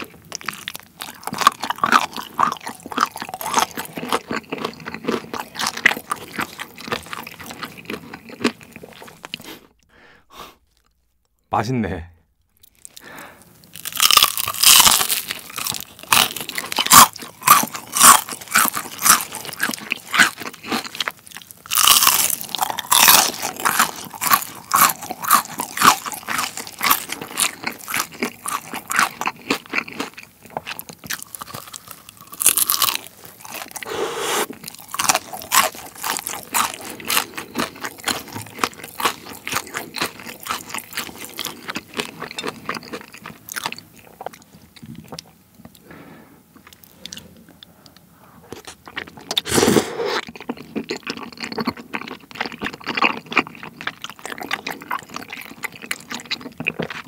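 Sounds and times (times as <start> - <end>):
crunching bites of fried chicken: 0.0 - 9.6, 12.8 - 44.4, 48.5 - 57.0
rapid crackly chewing: 0.0 - 9.6, 12.7 - 45.8, 50.2 - 57.0.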